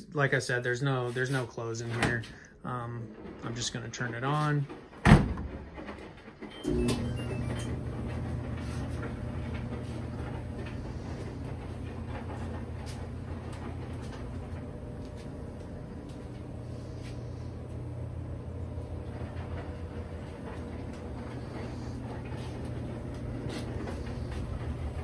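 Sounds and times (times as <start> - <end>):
dryer humming: 0.0 - 25.0.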